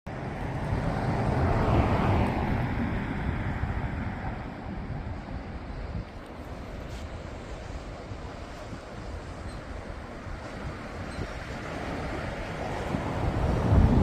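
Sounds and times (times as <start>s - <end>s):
sea waves breaking on shore: 0.1s - 14.0s
wind rumbling on microphone: 0.1s - 14.0s.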